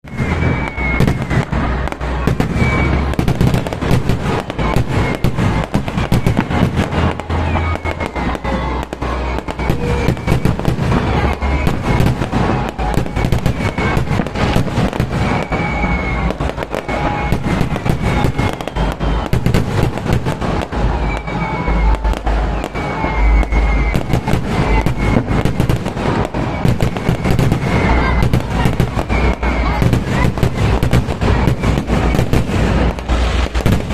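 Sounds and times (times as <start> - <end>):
fireworks banging: 0.0 - 33.9
fireworks falling whistles: 0.0 - 33.9.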